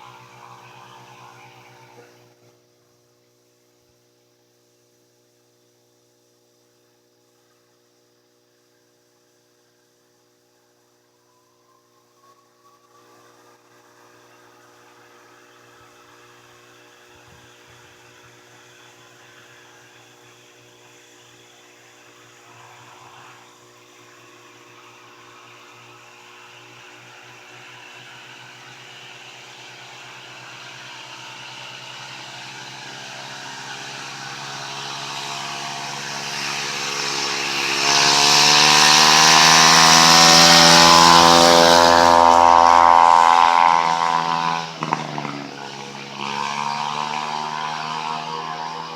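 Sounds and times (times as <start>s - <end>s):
mini bike engine approaching: 0.0s - 2.2s, 11.2s - 48.9s.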